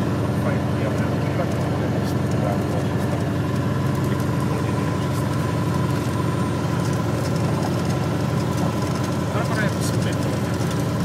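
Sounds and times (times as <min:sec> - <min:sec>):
airplane engine and propeller running: 0:00.0 - 0:11.0.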